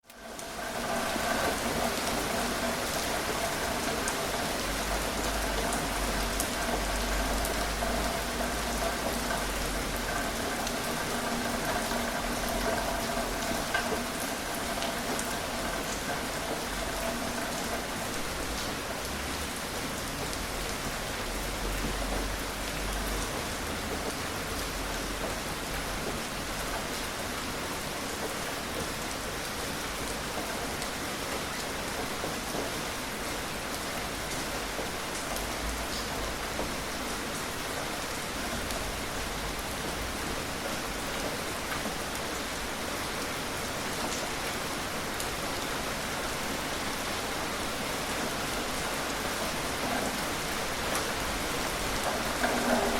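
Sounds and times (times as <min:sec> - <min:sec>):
raindrops ticking on a surface: 0:00.0 - 0:52.9
steady rain hiss: 0:00.0 - 0:52.9.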